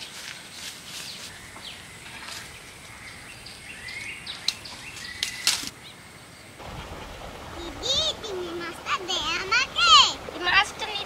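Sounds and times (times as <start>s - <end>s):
birds chirping: 0.0s - 11.0s
soft outdoor hiss: 0.0s - 11.0s.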